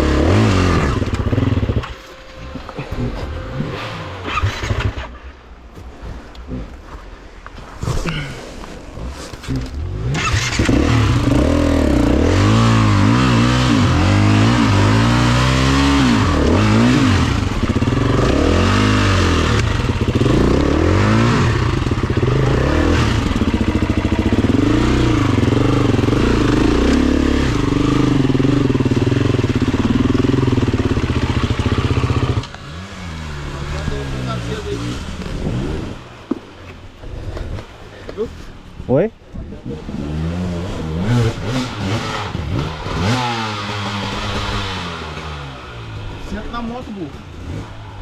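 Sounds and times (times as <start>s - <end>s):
dirt bike engine revving: 0.0s - 5.4s, 9.0s - 36.2s, 39.6s - 48.0s.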